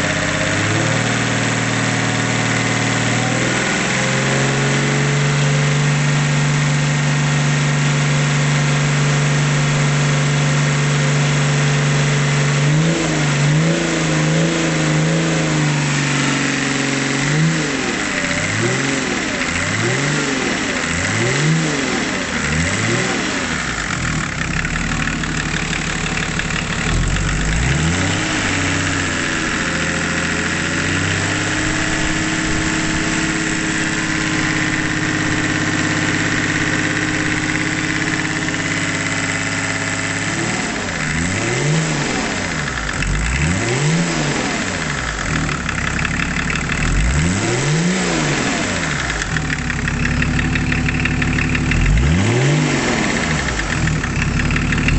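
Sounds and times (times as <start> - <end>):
diesel engine revving and idling: 0.0 - 54.9.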